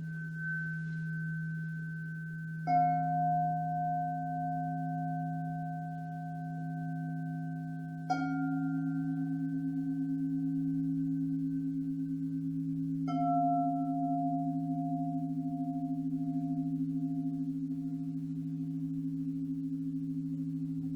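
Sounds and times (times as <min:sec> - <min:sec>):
singing bowls ringing: 0:00.0 - 0:20.9.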